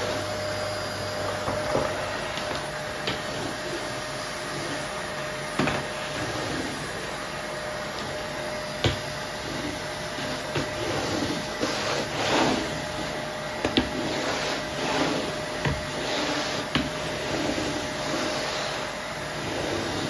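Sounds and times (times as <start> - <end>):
floor brush on wooden floor: 0.0 - 20.0
vacuum cleaner running: 0.0 - 20.0.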